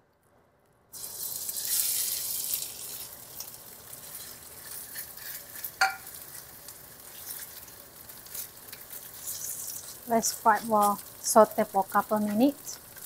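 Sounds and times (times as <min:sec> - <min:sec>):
chicken sizzling in hot oil: 0:01.0 - 0:13.0.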